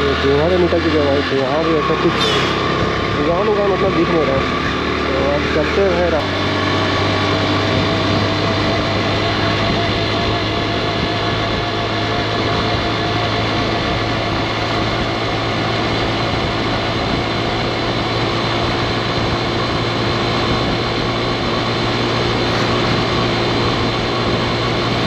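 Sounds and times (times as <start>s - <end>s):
motorcycle engine running: 0.0s - 25.0s
road noise: 0.0s - 25.0s.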